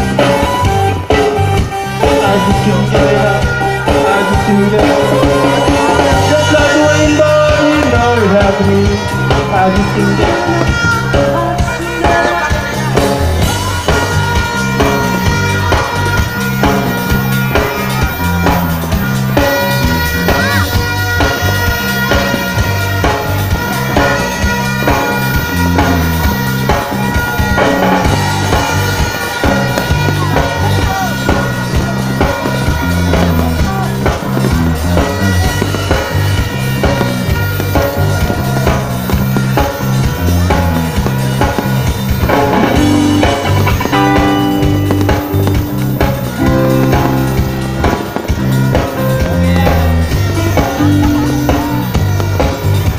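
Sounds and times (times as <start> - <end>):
music with drum beat and bass: 0.0 - 52.9.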